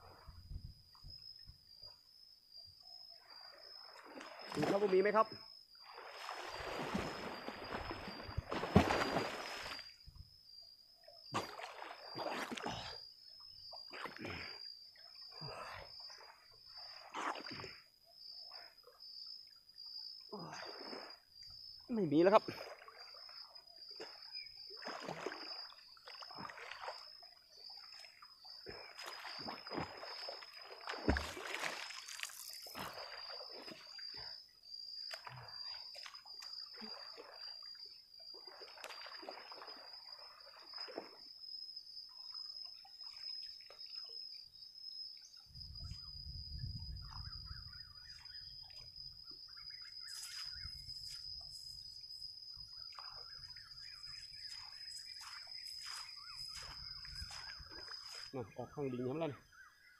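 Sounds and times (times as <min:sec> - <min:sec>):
water splashing and sloshing: 0:03.2 - 0:10.4, 0:11.0 - 0:17.9, 0:20.4 - 0:44.3, 0:46.9 - 0:58.4.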